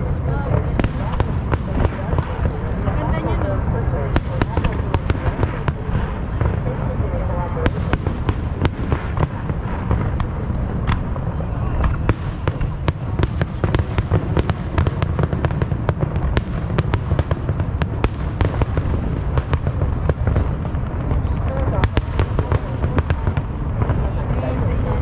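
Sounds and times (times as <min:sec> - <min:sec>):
fireworks booming: 0:00.0 - 0:25.0
fireworks cracks and crackles: 0:00.0 - 0:25.0.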